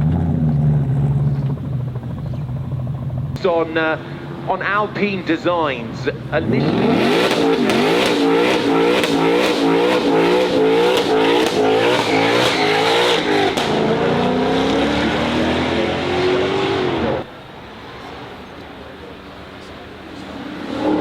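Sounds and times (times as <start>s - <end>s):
car engine revving: 0.0s - 21.0s
exhaust crackles: 0.0s - 21.0s.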